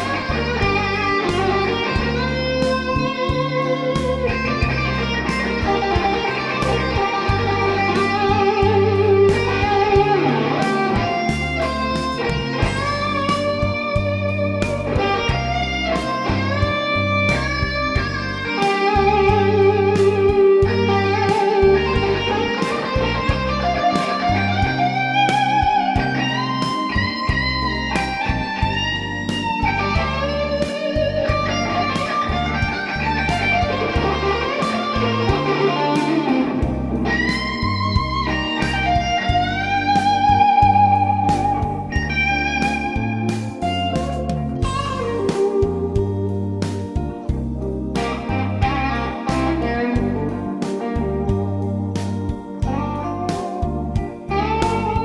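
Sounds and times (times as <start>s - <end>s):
bass guitar: 0.0s - 55.0s
drums: 0.0s - 55.0s
overdriven electric guitar lead: 0.0s - 55.0s.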